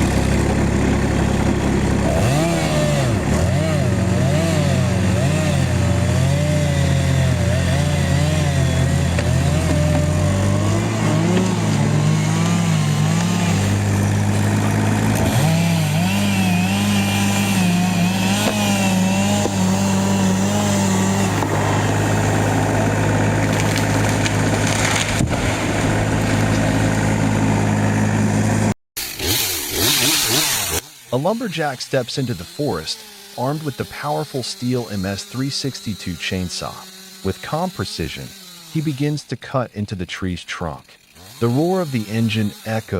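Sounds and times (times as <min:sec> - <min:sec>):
chainsaw cutting tree trunk: 0:00.0 - 0:42.9.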